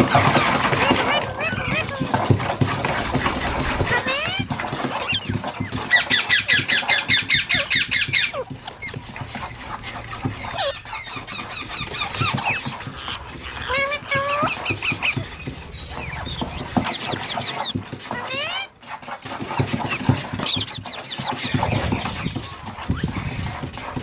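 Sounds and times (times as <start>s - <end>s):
parrot chirping and squealing: 0.0s - 18.9s, 19.5s - 24.0s.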